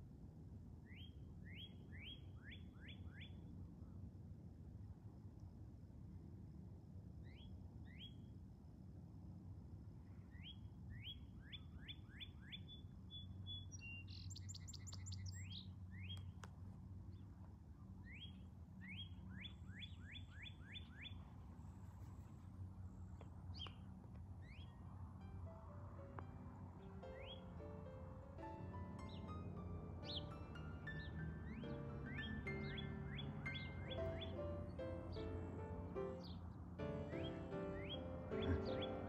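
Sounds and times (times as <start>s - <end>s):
songbirds singing: 0.8s - 4.1s, 7.2s - 8.3s, 10.1s - 39.0s.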